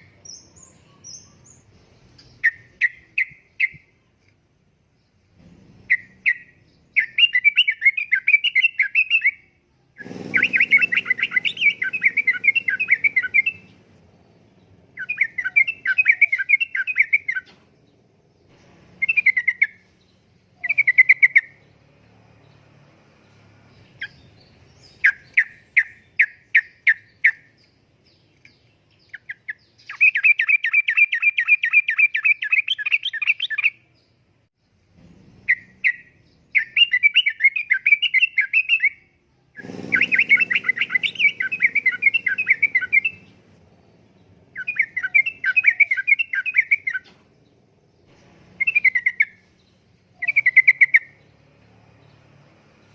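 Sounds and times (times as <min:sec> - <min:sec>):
bird singing fast chirping notes: 0:00.0 - 0:52.9.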